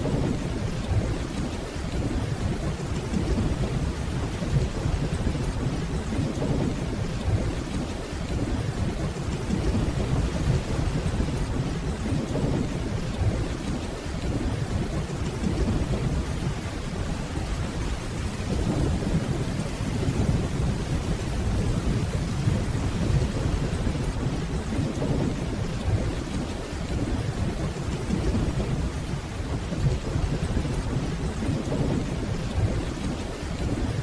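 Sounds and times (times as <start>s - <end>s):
distant rolling thunder: 0.0s - 34.0s
steady rainfall: 0.0s - 34.0s.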